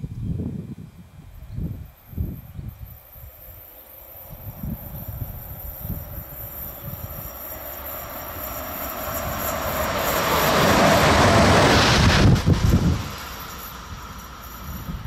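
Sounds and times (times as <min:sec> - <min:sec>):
electric locomotive passing: 0:00.0 - 0:15.0.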